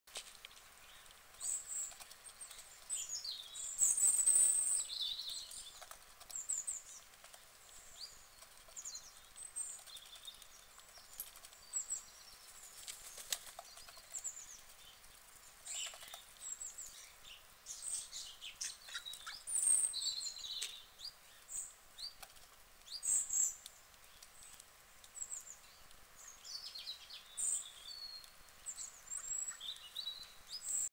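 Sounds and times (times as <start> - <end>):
small birds chirping: 0.1 - 30.9.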